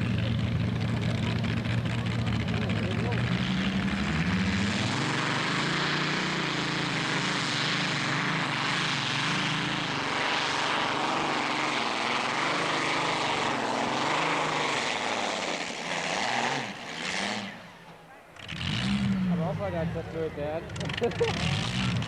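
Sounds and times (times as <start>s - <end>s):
tractor engines at full throttle: 0.0s - 22.0s.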